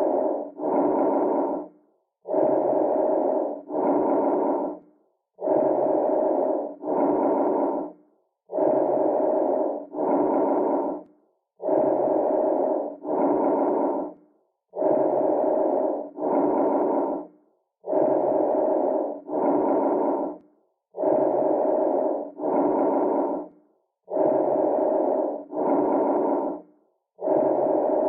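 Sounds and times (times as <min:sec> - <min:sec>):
breath sounds through stethoscope: 0:00.0 - 0:28.0.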